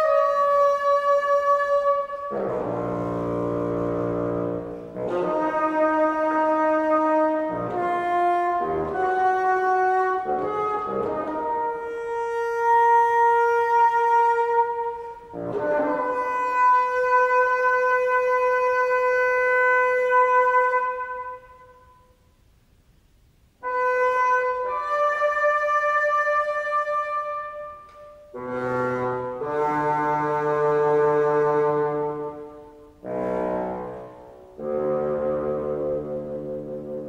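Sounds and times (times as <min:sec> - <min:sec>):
bassoon playing held notes: 0:00.0 - 0:22.2, 0:23.6 - 0:37.0.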